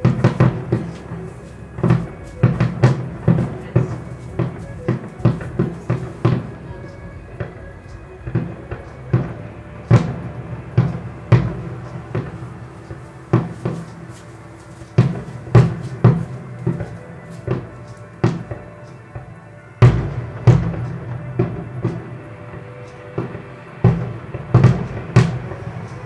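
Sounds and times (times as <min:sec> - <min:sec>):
firework shells bursting: 0:00.0 - 0:26.0.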